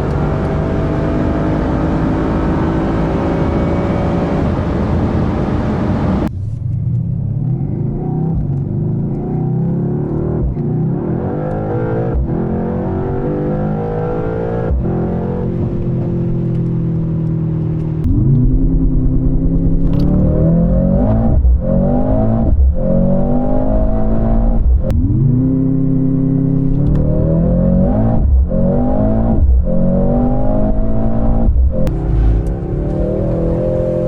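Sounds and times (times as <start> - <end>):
car engine accelerating through gears: 0.0 - 6.3, 7.0 - 34.0.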